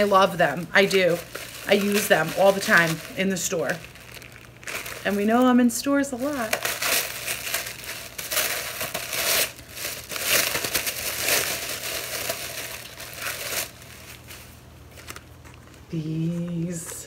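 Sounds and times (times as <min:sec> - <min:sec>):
tissue paper crinkling: 0:00.0 - 0:15.9.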